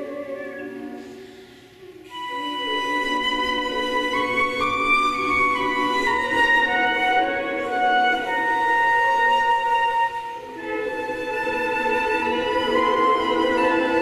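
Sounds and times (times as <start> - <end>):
flute choir playing: 0.0 - 14.0.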